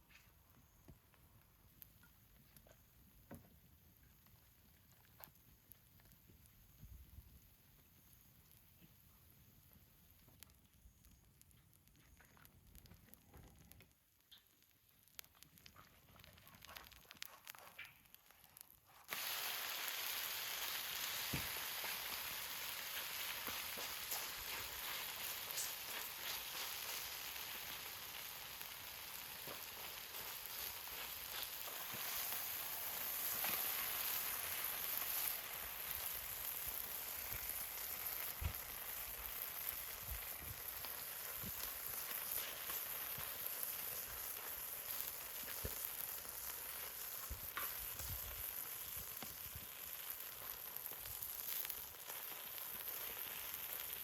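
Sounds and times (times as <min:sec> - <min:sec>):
pancake sizzling in oil: 0:00.0 - 0:54.0.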